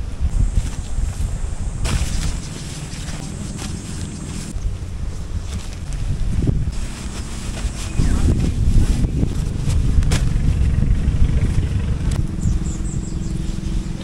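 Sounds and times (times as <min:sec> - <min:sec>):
engine rumbling: 0:00.0 - 0:14.0
wind buffeting microphone: 0:00.0 - 0:14.0.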